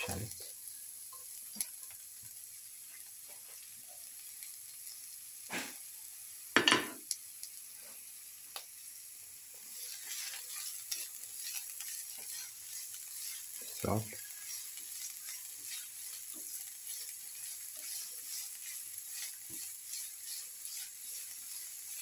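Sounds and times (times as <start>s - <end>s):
shallots sizzling in hot oil: 0.0s - 22.0s.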